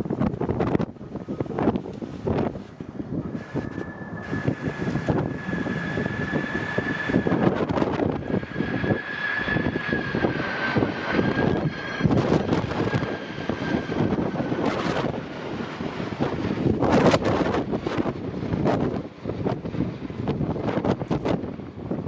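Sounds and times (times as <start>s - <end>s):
jet engines whining: 0.0s - 22.0s
wind buffeting microphone: 0.0s - 22.0s.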